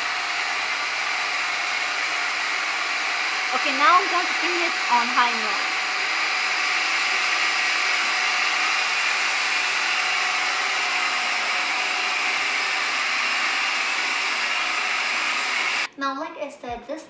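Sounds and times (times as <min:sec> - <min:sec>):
floor cleaner motor whirring: 0:00.0 - 0:15.9.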